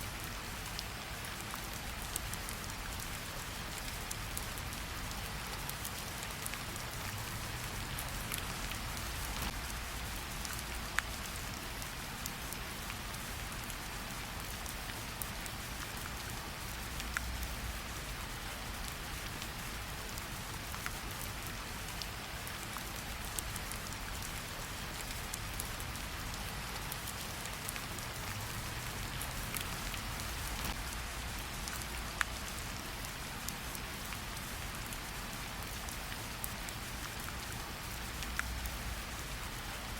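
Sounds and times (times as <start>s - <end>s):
steady rain hissing: 0.0s - 39.9s
raindrops ticking: 1.7s - 13.8s, 14.4s - 39.1s.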